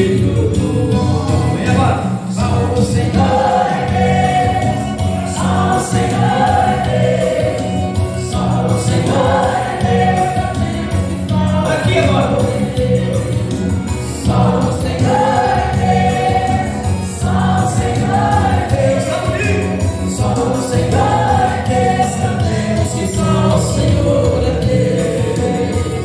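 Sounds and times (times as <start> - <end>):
instrumental accompaniment: 0.0 - 26.0
two men singing into microphones: 0.0 - 26.0.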